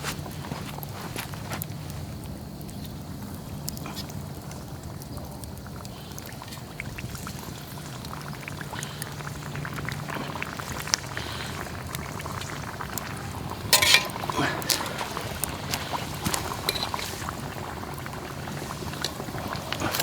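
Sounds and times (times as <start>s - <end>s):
oil crackling and popping: 0.0s - 20.0s.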